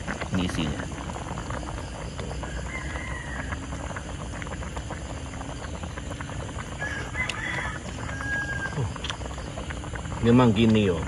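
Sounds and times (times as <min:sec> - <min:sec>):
soup simmering with bubbling pops: 0:00.0 - 0:11.0.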